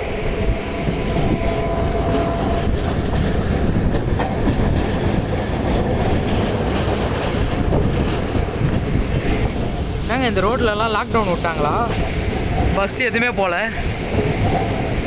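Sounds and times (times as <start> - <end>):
faint train whine: 0.0 - 15.0
train wheels rumbling on rails: 0.0 - 15.0.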